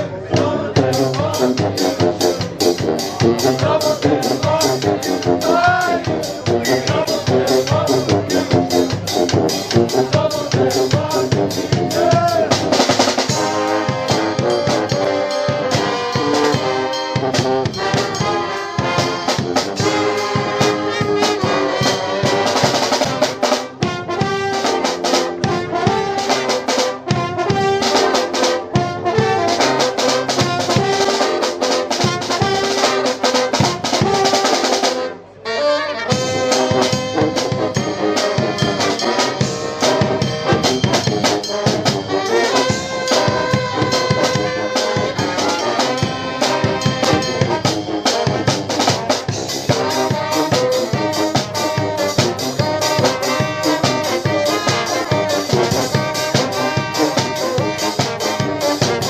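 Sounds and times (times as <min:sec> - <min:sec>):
drum kit beat: 0:00.0 - 0:35.2, 0:36.1 - 0:59.0
trumpets and trombones: 0:00.0 - 0:59.0.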